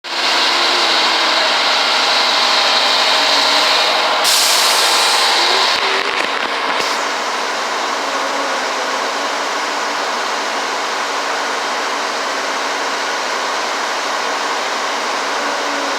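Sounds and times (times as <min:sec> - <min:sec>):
machinery running with harsh hiss: 0:00.1 - 0:15.9.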